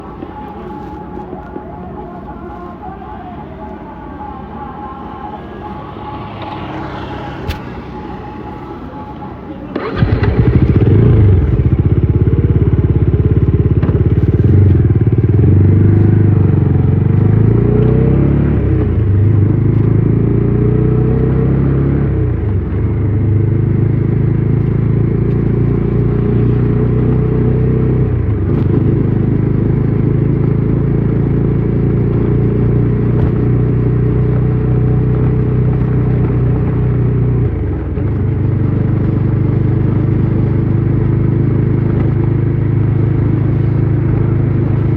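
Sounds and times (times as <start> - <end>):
motorcycle engine revving: 4.3 - 44.9.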